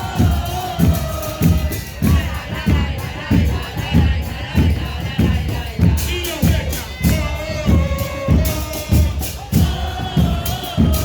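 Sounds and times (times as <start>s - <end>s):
bass drums beating a rhythm: 0.0s - 11.0s
voices: 0.0s - 11.0s.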